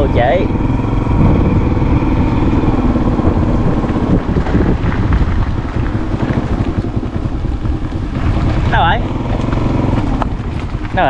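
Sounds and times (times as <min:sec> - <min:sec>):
motorbike engine running: 0:00.0 - 0:11.0
wind buffeting microphone: 0:00.0 - 0:11.0.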